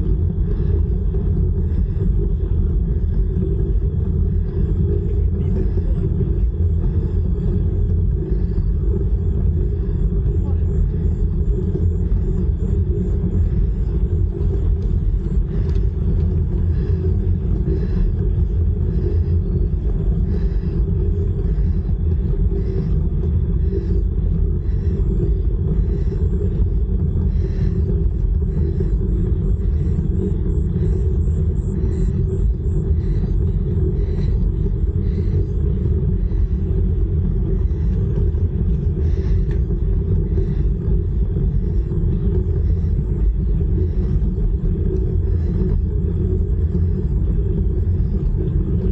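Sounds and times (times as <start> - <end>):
bicycle tyres on tarmac: 0.0 - 48.9
wind rumble on microphone: 0.0 - 48.9.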